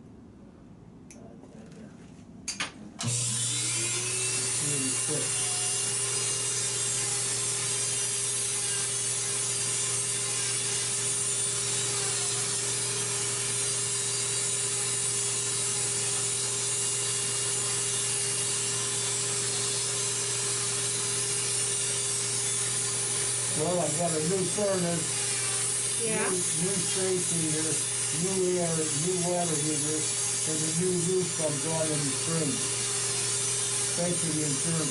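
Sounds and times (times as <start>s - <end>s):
nail drill grinding: 3.0s - 34.9s.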